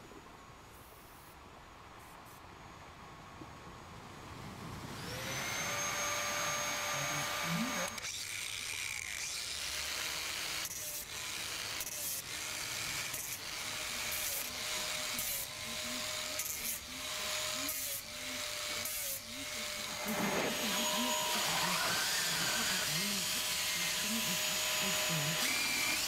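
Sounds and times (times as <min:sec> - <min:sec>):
angle grinder grinding metal: 0:05.0 - 0:26.0
electric drill boring into wood: 0:05.0 - 0:26.0.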